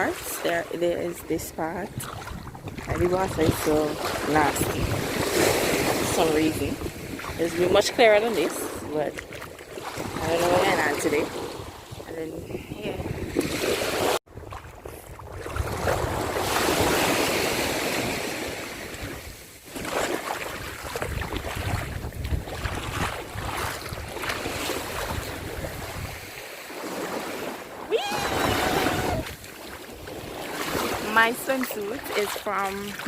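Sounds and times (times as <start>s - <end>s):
wind buffeting microphone: 0.0s - 26.4s, 27.8s - 33.0s
sea waves washing on shore: 0.0s - 33.0s.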